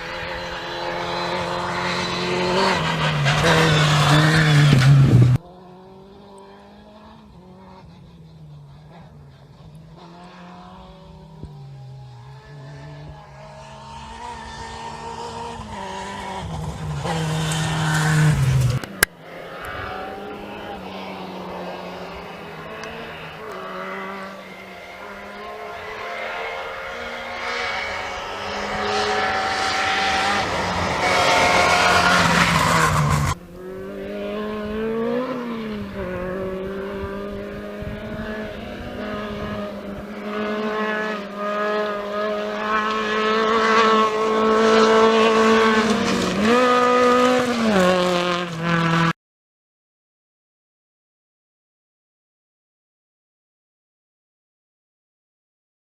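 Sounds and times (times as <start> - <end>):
rally car engine passing: 0.0 - 49.1.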